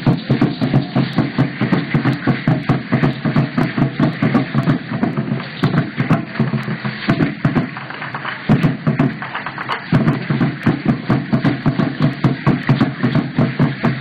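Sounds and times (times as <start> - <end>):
drum beating fast: 0.0 - 14.0.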